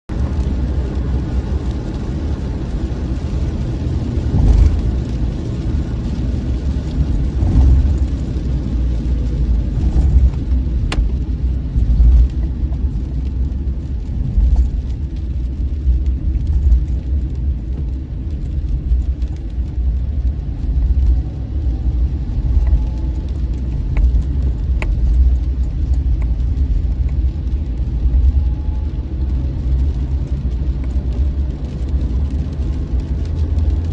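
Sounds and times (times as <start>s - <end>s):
car rumbling on road: 0.1s - 33.9s.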